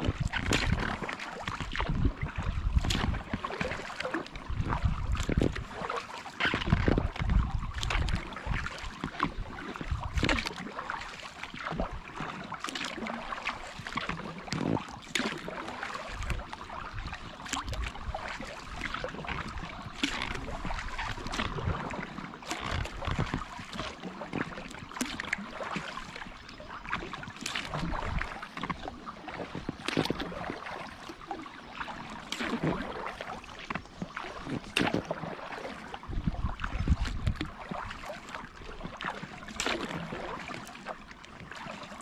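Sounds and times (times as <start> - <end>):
paddle splashing in water: 0.0 - 42.0.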